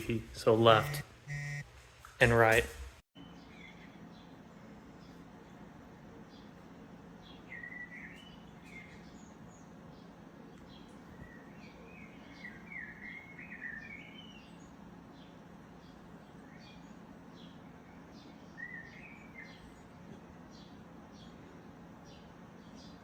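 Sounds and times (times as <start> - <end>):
low background hum: 0.0 - 23.0
faint bird chirps: 3.2 - 23.0.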